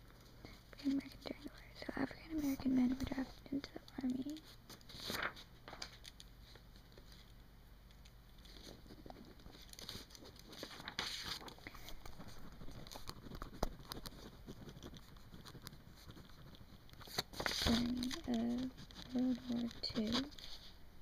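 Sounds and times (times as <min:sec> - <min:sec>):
paper rustling and crinkling: 0:00.0 - 0:07.3, 0:08.4 - 0:20.8
small taps and scratches: 0:01.0 - 0:20.7.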